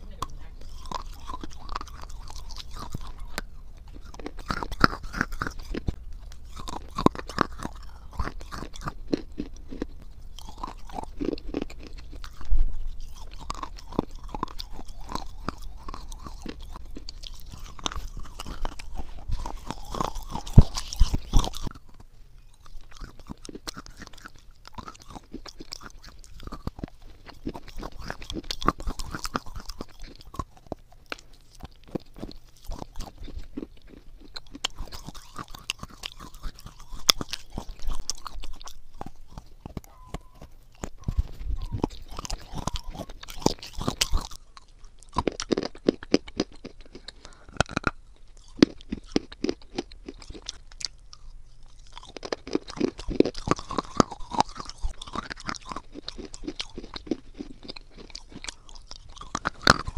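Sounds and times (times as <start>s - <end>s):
biting and chewing clay: 0.0s - 59.9s.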